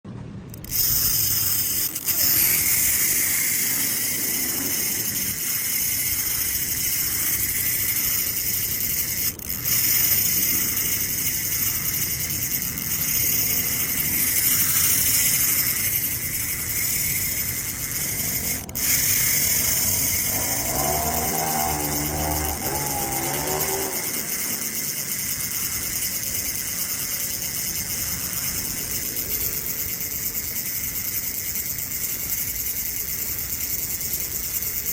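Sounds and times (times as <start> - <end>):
low wavering sound: 0.5 - 32.4
insect chorus buzzing: 0.6 - 34.9.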